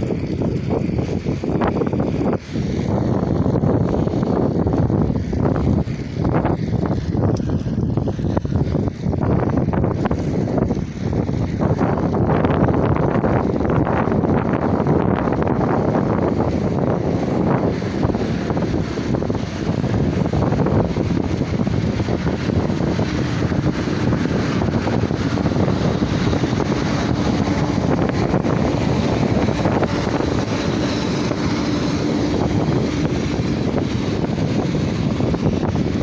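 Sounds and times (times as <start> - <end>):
bike road noise: 0.0 - 36.0
wind rushing over microphone: 0.0 - 36.0.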